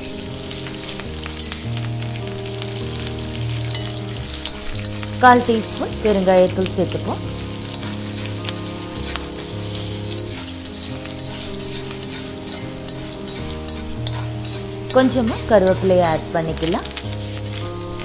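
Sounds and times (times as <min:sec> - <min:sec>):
background music with low notes: 0:00.0 - 0:18.0
seeds sizzling in hot oil: 0:00.0 - 0:18.0
metal spatula stirring: 0:02.5 - 0:05.7, 0:06.4 - 0:17.8.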